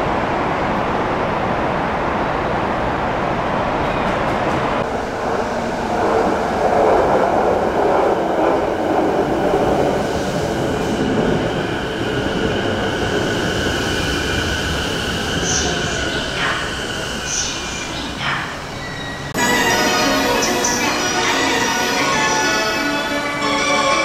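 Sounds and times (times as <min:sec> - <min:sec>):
train pulling into platform: 0:00.0 - 0:24.0.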